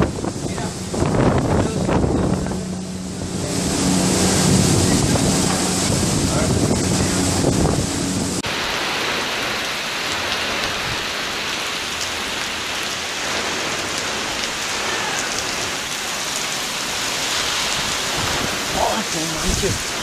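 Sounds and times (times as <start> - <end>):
heavy wind-driven rain: 0.0 - 20.0.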